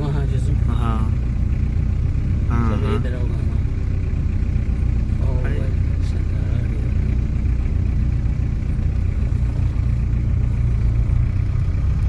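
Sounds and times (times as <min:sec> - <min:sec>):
road noise: 0:00.0 - 0:12.0
vehicle engine droning: 0:00.0 - 0:12.0.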